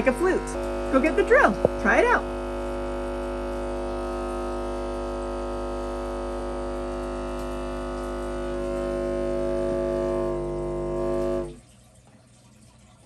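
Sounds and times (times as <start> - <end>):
air horn droning tone: 0.0 - 11.6.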